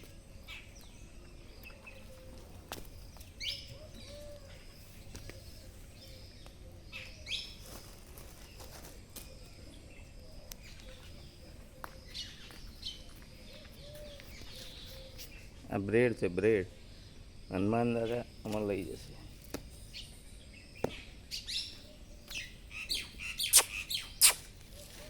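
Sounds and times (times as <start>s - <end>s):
birds chirping: 0.0s - 25.0s
faint outdoor background noise: 0.0s - 25.0s.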